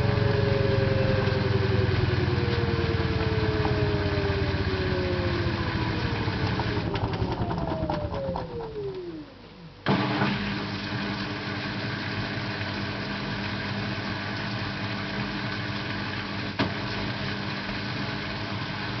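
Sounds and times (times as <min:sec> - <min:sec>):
steady machine hum: 0:00.0 - 0:19.0
washing machine motor whine: 0:00.0 - 0:19.0.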